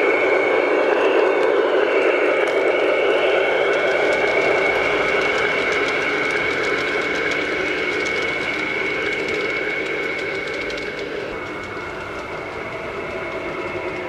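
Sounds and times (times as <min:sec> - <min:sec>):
model train running: 0:00.0 - 0:14.0
wheels clicking over rails: 0:00.0 - 0:14.0.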